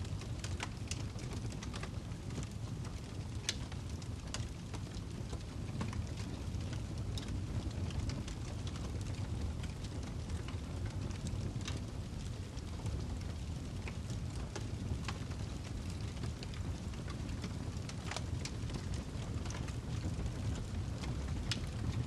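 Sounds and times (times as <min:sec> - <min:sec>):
fire crackles and pops: 0:00.0 - 0:22.0
fire low rumble: 0:00.0 - 0:22.0.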